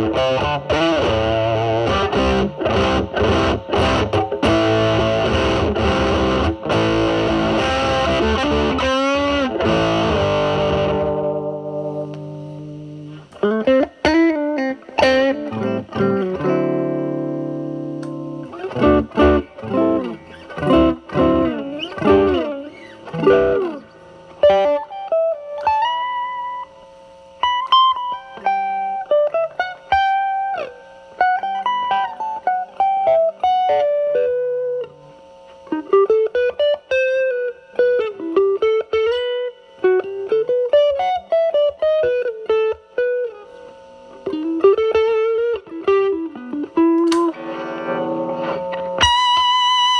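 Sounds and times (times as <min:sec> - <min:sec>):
fuzz electric guitar: 0:00.0 - 0:49.9.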